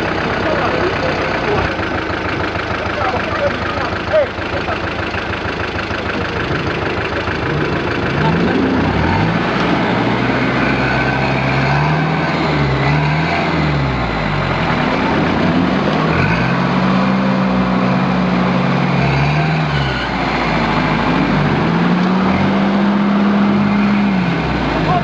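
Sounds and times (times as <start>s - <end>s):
off-road engine revving hard: 0.0s - 25.0s.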